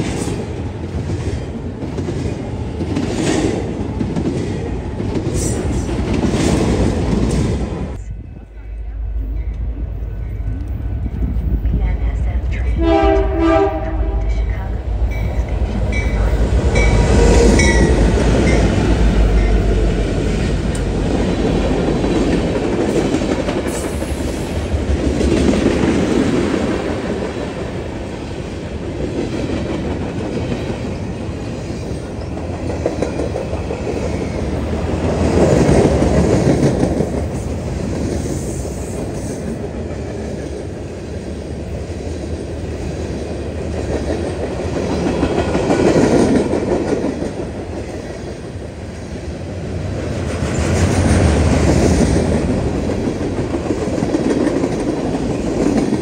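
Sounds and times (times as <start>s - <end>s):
diesel locomotive engine drone: 0.0s - 56.0s
freight train wheels rumbling: 0.0s - 56.0s.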